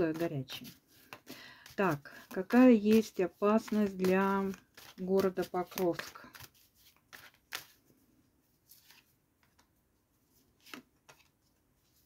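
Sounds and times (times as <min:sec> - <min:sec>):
cards shuffling: 0:00.0 - 0:07.8, 0:08.6 - 0:09.7, 0:10.5 - 0:12.0.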